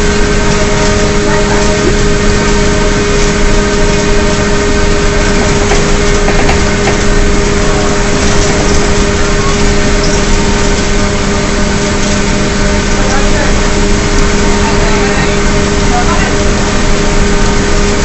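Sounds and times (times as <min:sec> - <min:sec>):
bus engine howling: 0:00.0 - 0:18.0
road noise: 0:00.0 - 0:18.0.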